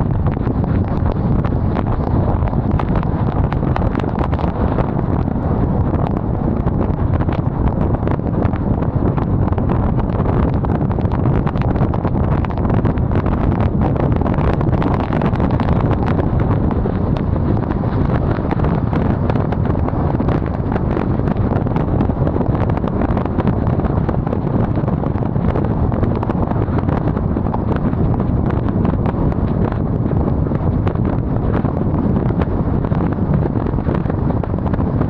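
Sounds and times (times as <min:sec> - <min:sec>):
wind rumble buffeting microphone: 0:00.0 - 0:35.0.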